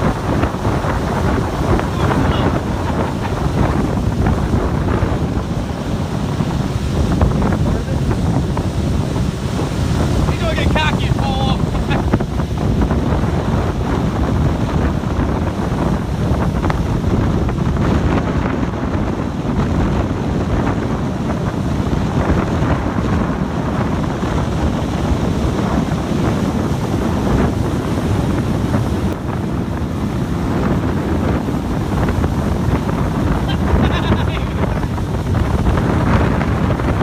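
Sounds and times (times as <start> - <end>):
loud wind buffeting microphone: 0.0 - 37.0.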